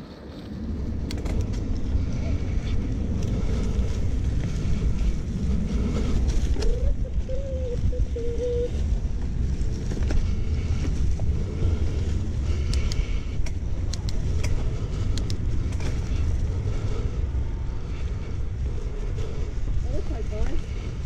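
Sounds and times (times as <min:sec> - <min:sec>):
bike clicks and rattles: 0:00.0 - 0:21.0
bike tyres rumbling on dirt: 0:00.0 - 0:21.0
wind on camera: 0:00.0 - 0:21.0.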